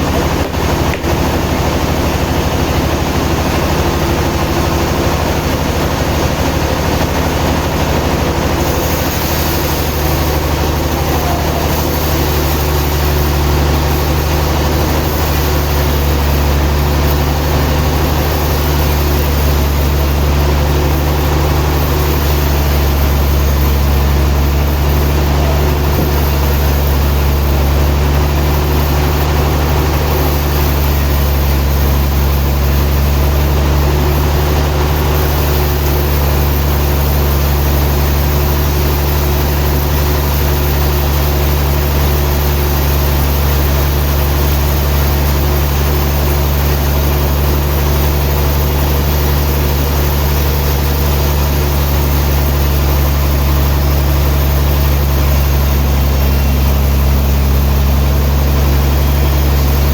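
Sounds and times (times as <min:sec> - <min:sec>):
sawmill machinery drone: 0:00.0 - 0:59.9.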